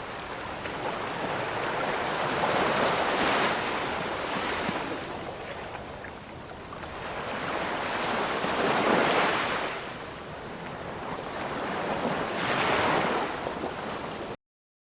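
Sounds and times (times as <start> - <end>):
ocean waves breaking: 0.0 - 14.4.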